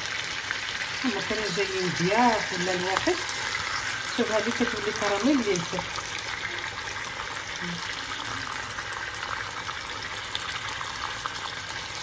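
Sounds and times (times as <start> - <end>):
fruit sizzling in frying pan: 0.0 - 12.0.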